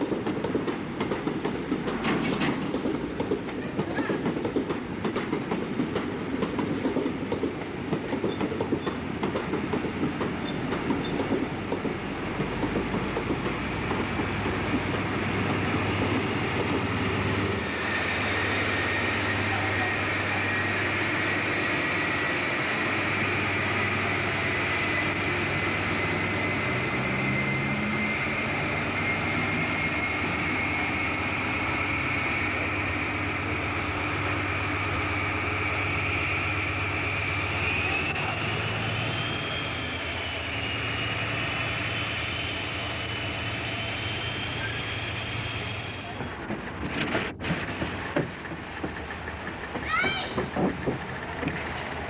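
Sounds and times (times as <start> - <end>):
diesel train engine whining: 0.0 - 52.0.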